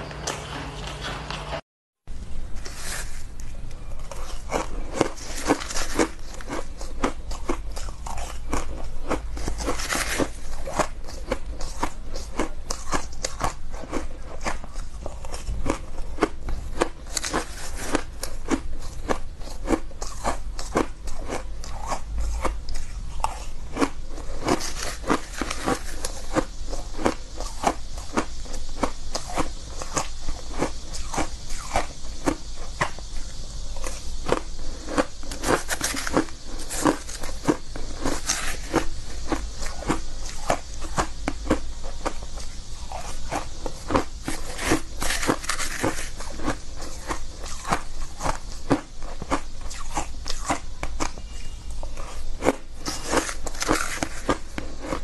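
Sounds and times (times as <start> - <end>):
ice crunching while chewed: 3.9 - 31.9, 33.8 - 42.2, 42.9 - 51.2, 52.0 - 55.0.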